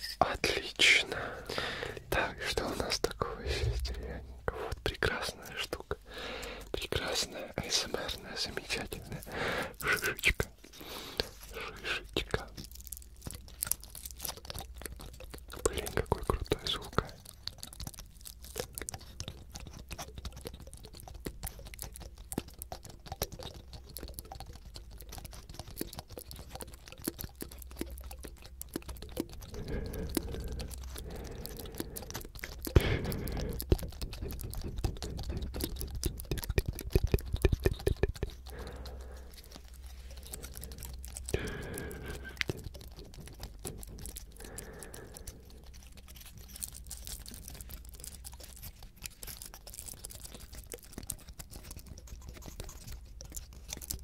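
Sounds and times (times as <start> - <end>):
fingertips scratching pine cone scales: 6.7 - 54.0.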